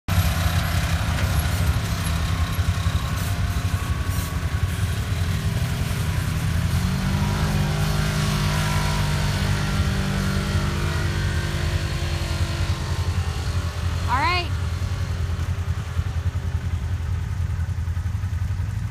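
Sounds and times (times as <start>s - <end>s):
engine climbing under load: 0.1s - 18.9s
engine idling: 0.1s - 18.9s.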